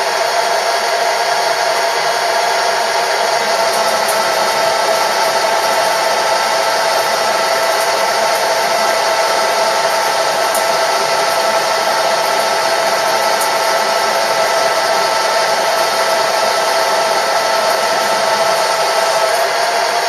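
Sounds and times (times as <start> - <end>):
machine tool motor whining: 0.0 - 20.0.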